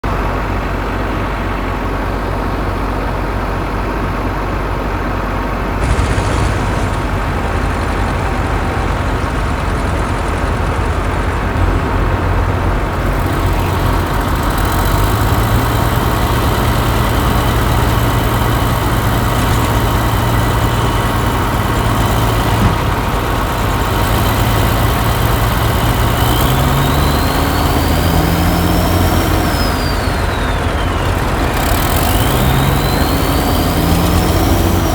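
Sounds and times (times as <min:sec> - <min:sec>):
heavy diesel engines running: 0:00.0 - 0:34.9
engine revving: 0:05.8 - 0:34.9.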